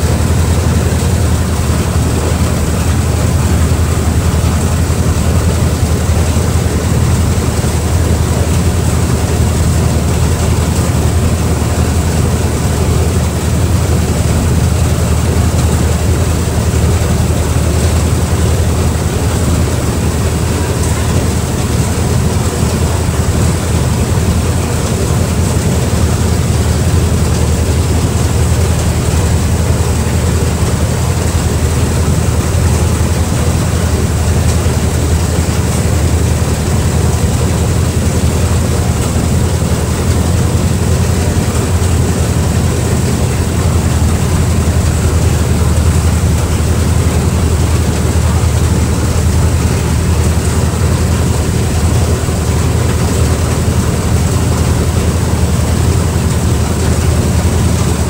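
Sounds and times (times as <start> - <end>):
rushing wake and spray: 0.0 - 58.0
speedboat engine drone: 0.0 - 58.0.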